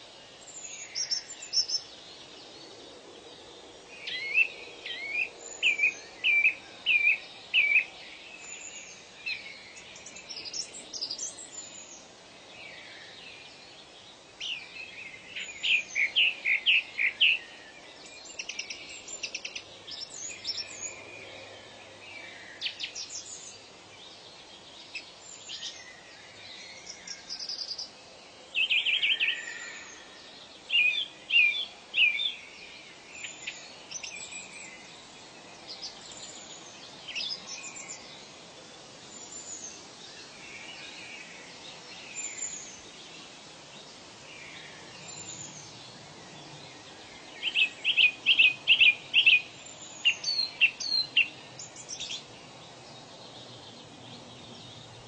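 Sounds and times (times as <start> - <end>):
birds singing: 0.0 - 55.0
faint steady hiss: 0.0 - 55.0.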